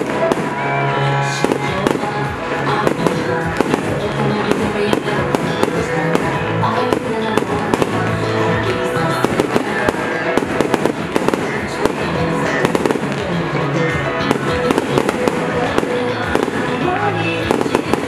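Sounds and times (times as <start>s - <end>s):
fireworks bursting and crackling: 0.0s - 18.0s
music with held notes: 0.0s - 18.0s.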